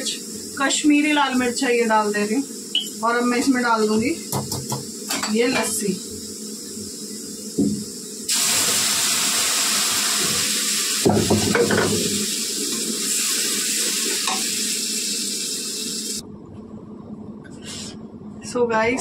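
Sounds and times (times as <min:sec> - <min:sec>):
liquid hissing in hot oil: 0:00.0 - 0:16.2.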